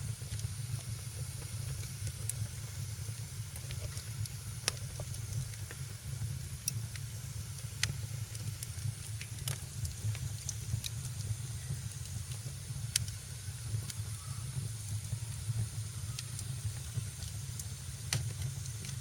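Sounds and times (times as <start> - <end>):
fire low rumble: 0.0 - 19.0
wood fire crackling: 0.0 - 19.0.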